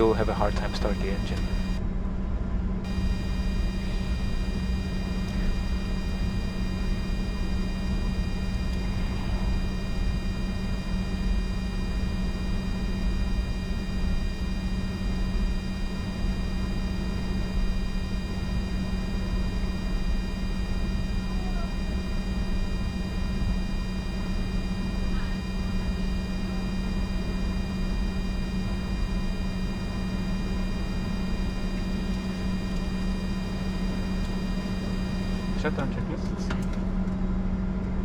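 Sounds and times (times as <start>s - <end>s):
jet engines idling: 0.0s - 1.9s, 2.8s - 36.7s.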